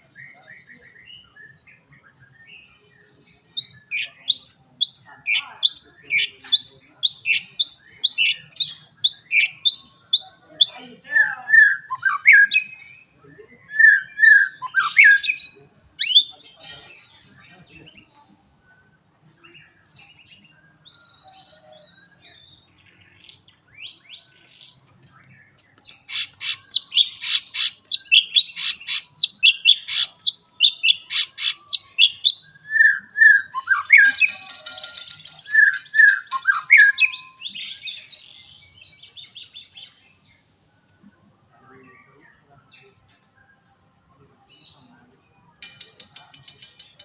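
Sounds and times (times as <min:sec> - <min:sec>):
songbird singing: 0:00.0 - 0:47.0.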